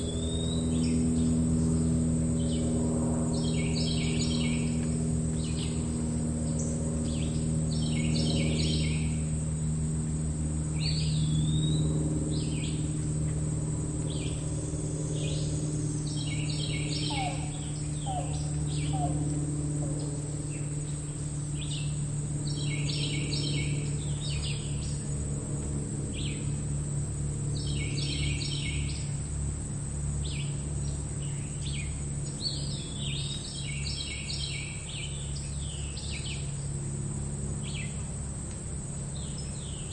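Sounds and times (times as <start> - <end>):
crickets trilling: 0.0 - 39.9
low hum: 0.0 - 39.9.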